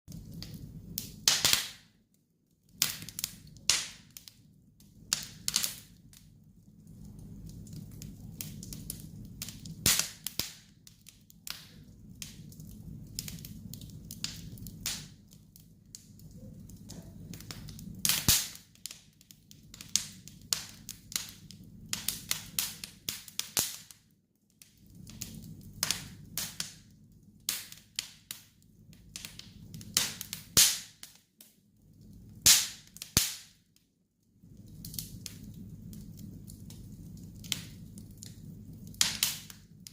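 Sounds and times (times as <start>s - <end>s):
campfire crackling and popping: 0.1s - 39.9s
low rumble of flames: 0.1s - 39.9s.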